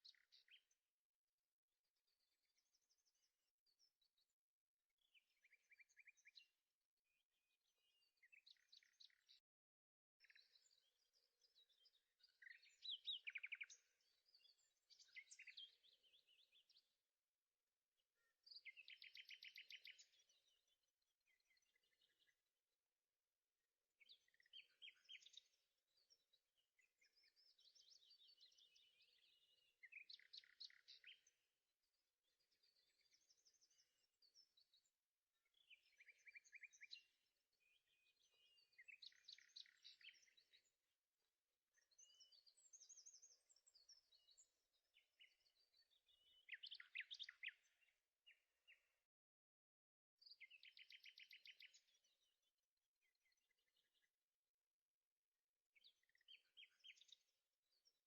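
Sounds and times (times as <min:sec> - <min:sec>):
songbird singing: 0:00.0 - 0:49.2, 0:50.2 - 0:54.6, 0:55.3 - 0:58.0.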